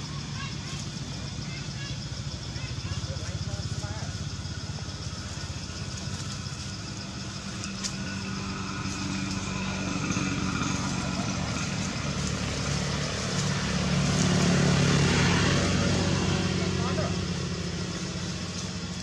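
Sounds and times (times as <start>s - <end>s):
engine running at low revs: 3.3s - 19.0s.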